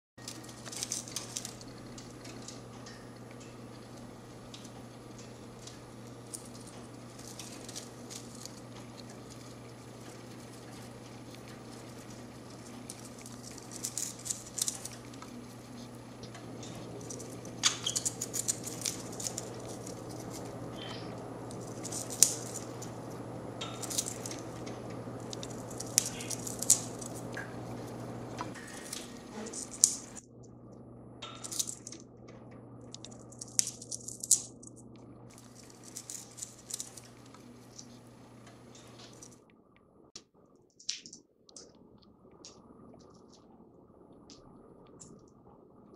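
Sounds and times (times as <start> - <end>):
bird beak nibbling and clicking: 0.2 - 30.2, 31.2 - 32.0, 32.9 - 39.4
steady low hum: 0.2 - 45.9.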